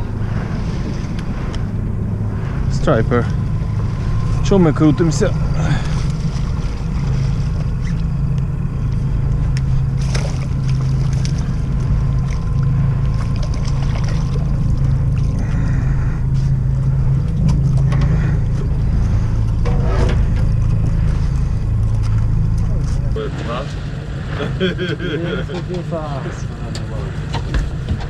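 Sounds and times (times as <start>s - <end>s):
boat motor humming: 0.0s - 28.0s.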